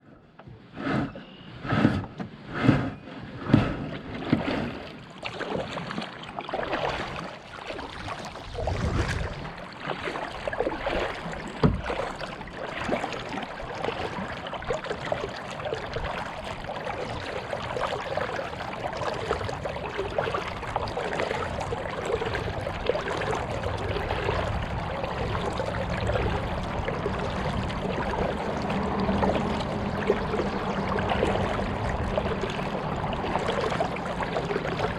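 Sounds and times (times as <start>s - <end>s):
water splashing and trickling: 3.2s - 34.9s.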